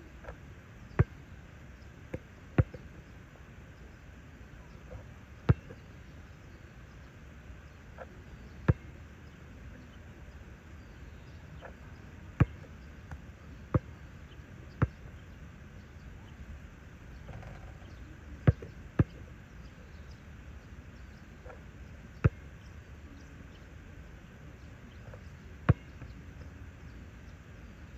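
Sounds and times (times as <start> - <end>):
outdoor hum: 0.0 - 27.9.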